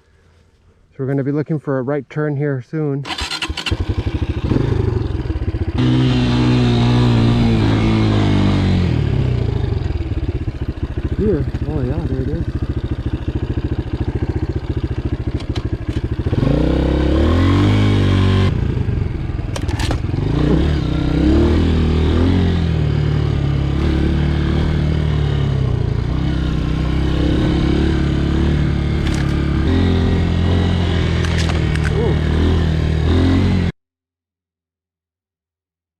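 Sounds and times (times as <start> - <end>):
dirt bike engine revving: 3.0 - 33.8.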